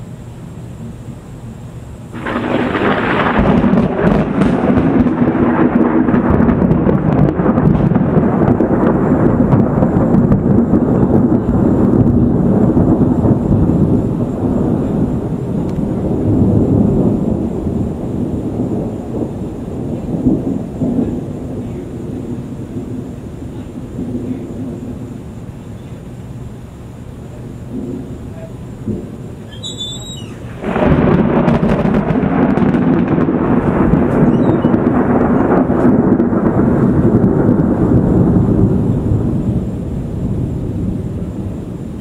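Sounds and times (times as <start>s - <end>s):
thunder crack and rumble: 2.1s - 42.0s.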